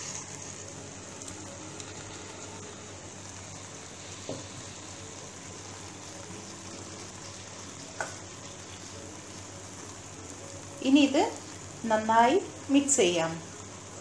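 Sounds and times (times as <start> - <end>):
chicken sizzling in metal pan: 0.0 - 14.0.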